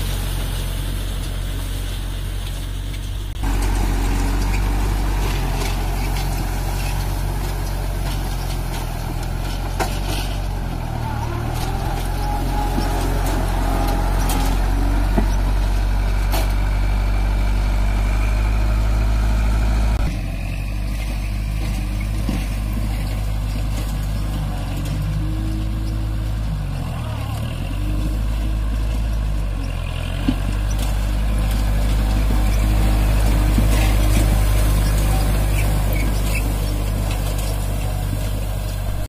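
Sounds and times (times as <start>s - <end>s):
diesel tractor engine running: 0.0s - 39.0s
round baler running: 0.0s - 39.0s.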